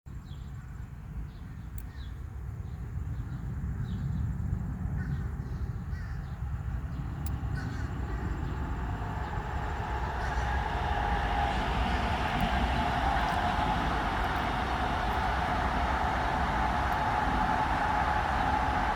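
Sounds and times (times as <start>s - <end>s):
steady low rumble: 3.0s - 18.9s.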